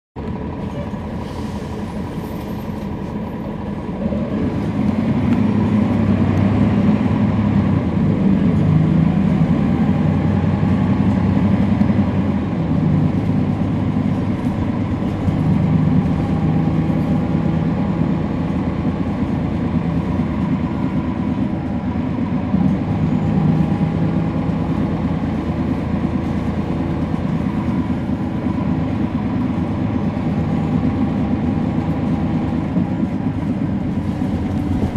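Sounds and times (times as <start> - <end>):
bus diesel engine running: 0.2 - 34.9.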